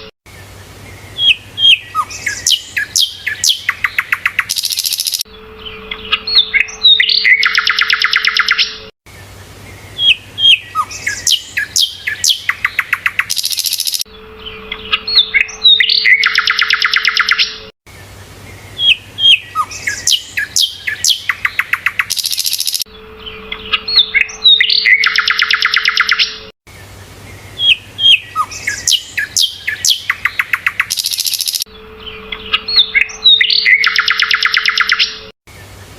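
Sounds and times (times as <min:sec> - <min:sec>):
songbird chirps and buzzy trill: 0:00.3 - 0:35.9.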